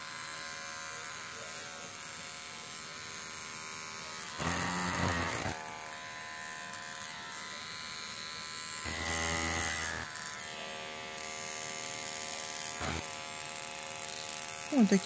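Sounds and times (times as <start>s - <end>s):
pet hair trimmer buzzing: 0.0s - 15.0s.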